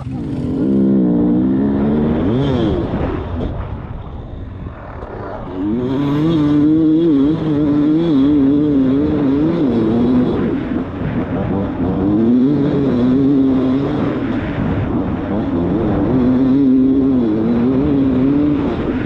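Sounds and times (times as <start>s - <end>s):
dirt bike engine revving: 0.0s - 4.3s, 5.0s - 19.0s.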